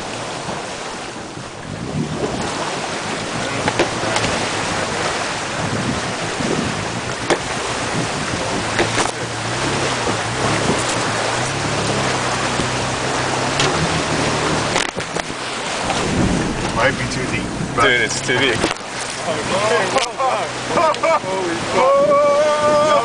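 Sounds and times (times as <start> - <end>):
water splashing against vehicle: 0.0 - 23.0
low engine drone: 1.0 - 21.9.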